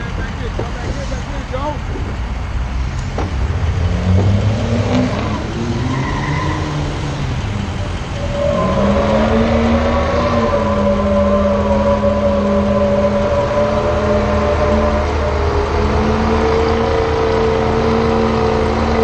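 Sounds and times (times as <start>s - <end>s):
truck engine revving: 0.0s - 19.0s
tires squealing: 3.0s - 19.0s.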